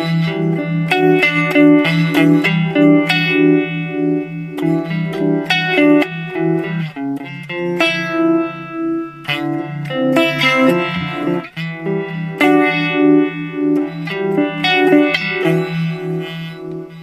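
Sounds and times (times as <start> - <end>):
clean electric guitar with chorus: 0.0 - 17.0.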